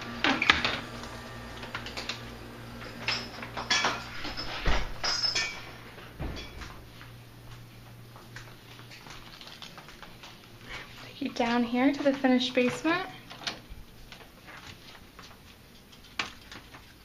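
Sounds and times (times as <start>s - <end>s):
footsteps in a house: 0.7s - 17.0s.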